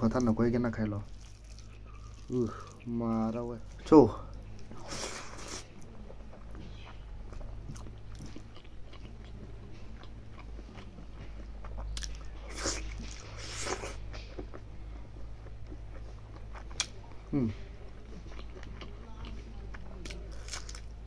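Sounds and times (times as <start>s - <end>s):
person chewing: 1.0s - 21.0s.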